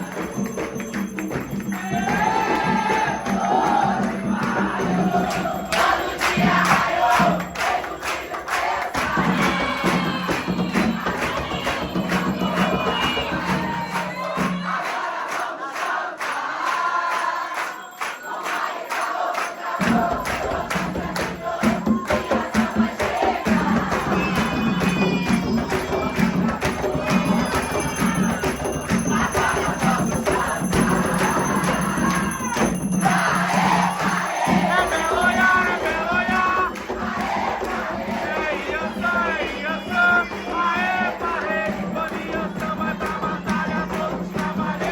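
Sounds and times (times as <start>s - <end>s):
tambourine jingling: 0.0s - 15.0s, 16.3s - 44.9s
crowd singing a chant: 0.0s - 44.9s
percussion with steady beat: 0.0s - 44.9s.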